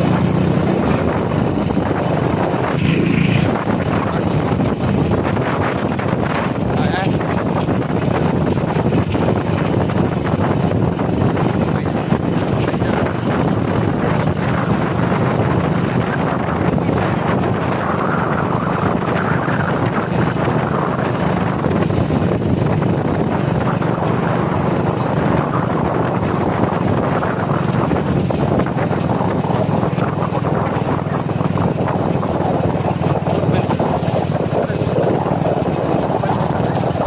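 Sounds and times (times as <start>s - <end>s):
vehicle engine running: 0.0s - 37.0s
wind on microphone: 0.0s - 37.0s.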